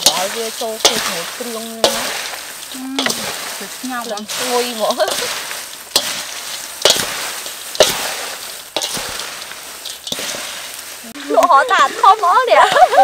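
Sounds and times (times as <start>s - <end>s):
fried insects rustling in bowl: 0.0s - 13.0s.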